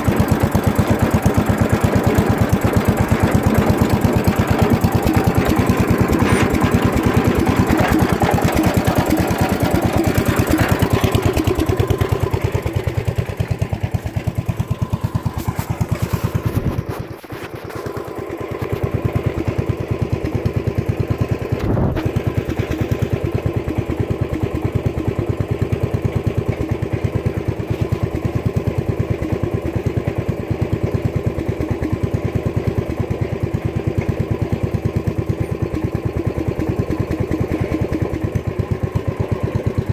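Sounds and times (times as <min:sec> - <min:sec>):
garden tractor engine idling: 0:00.0 - 0:39.9.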